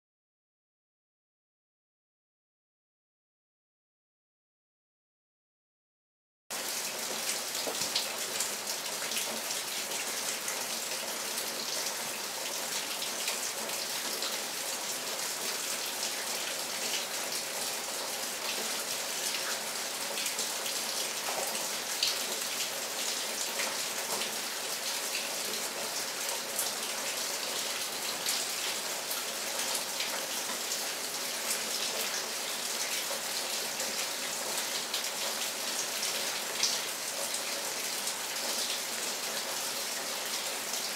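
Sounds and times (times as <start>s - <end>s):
steady rain falling: 6.5s - 40.9s.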